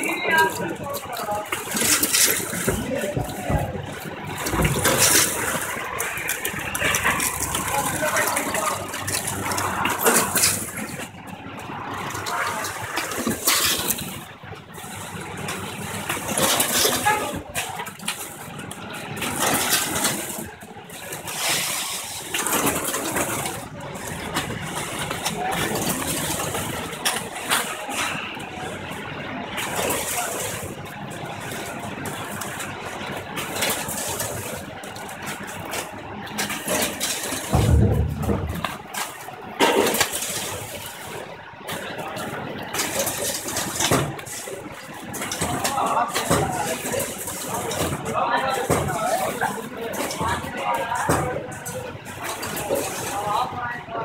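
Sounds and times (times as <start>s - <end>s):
machine clicks and clattering: 0.0s - 53.6s
packing machine running: 0.0s - 54.0s.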